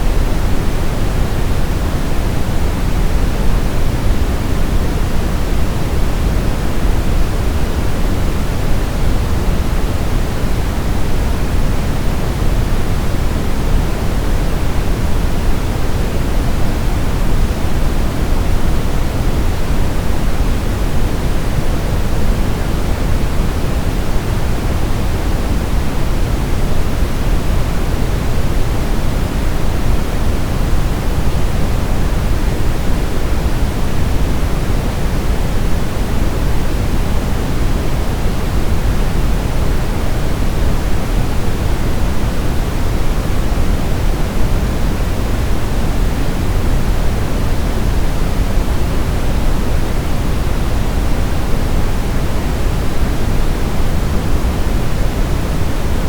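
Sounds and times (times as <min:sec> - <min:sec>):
brown noise rushing hiss: 0:00.0 - 0:56.0.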